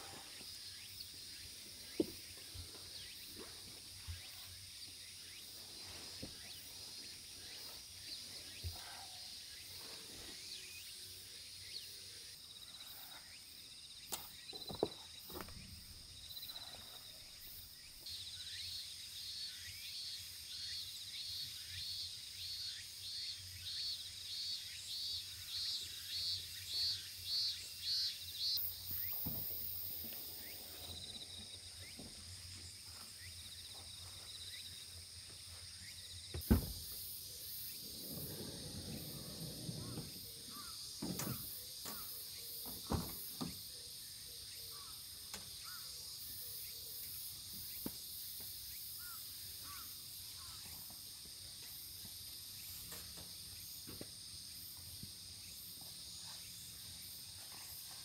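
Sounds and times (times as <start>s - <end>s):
cicada calling in pulses: 0.0s - 58.0s
insects droning: 0.0s - 58.0s.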